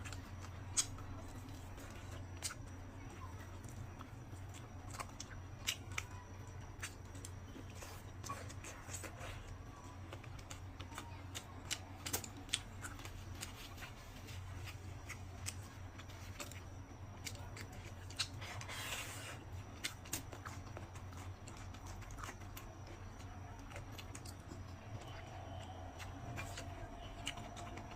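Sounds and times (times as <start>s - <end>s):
low hum: 0.0s - 27.9s
person chewing food: 0.0s - 27.9s.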